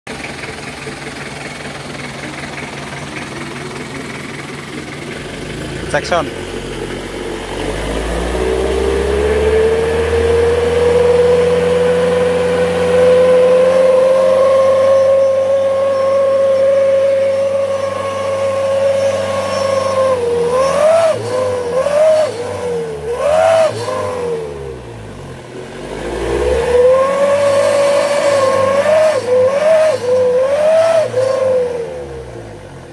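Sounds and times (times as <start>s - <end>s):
whistle exhaust howling with revs: 0.2s - 32.9s.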